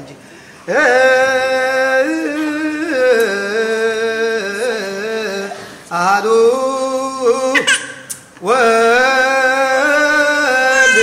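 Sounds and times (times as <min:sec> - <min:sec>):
voices chanting a hymn: 0:00.6 - 0:11.0.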